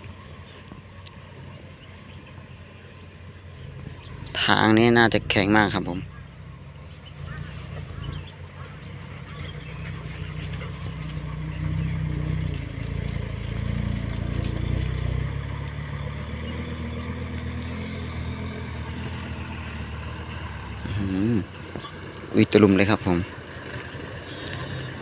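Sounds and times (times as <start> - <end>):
truck diesel engine running: 0.0 - 25.0.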